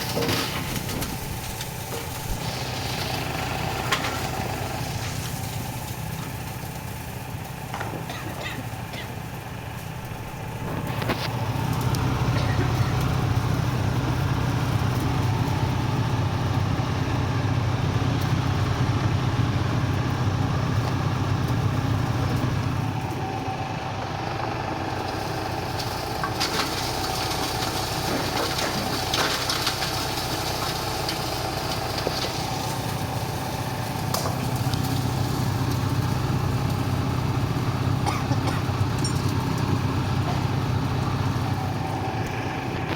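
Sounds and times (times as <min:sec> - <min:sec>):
mill machine drone: 0:00.0 - 0:27.5, 0:31.2 - 0:42.9.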